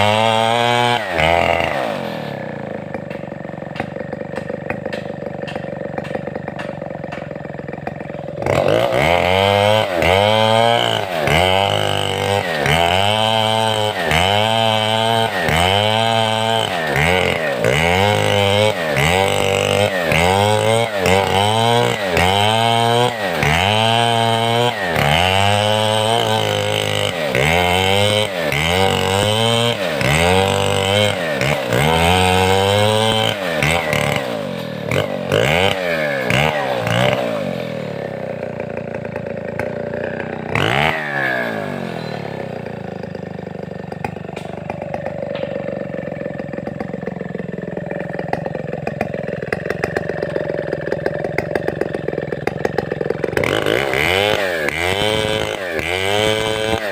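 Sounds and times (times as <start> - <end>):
chainsaw revving: 0.0 - 56.9.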